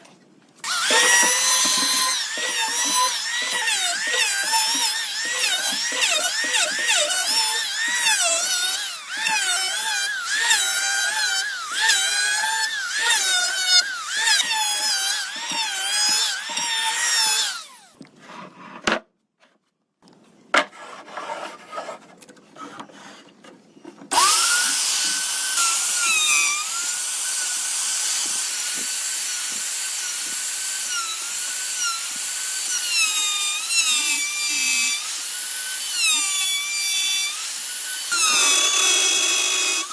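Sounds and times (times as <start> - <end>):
power tool cutting wood: 0.6 - 17.9, 24.1 - 39.9.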